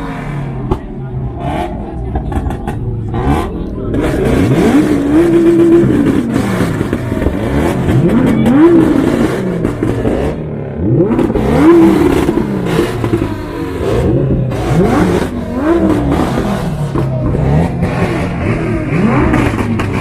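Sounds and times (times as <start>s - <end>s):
car engines revving in blips: 0.0s - 20.0s.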